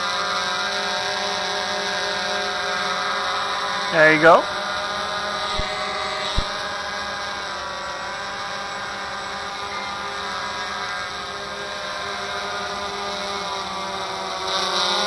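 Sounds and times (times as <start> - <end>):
quadcopter buzzing whine: 0.0 - 15.0.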